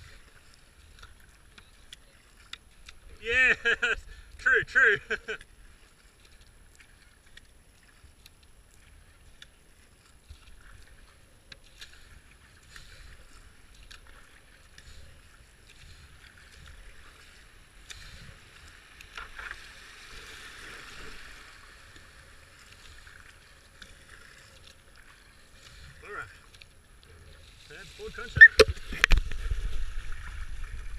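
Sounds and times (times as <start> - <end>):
kayak paddle splashing: 0.0 - 30.9
water running along hull: 0.0 - 30.9.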